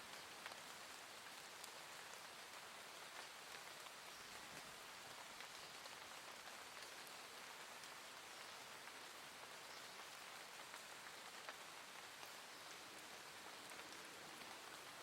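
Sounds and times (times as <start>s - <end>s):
soft steady rain: 0.0s - 15.0s.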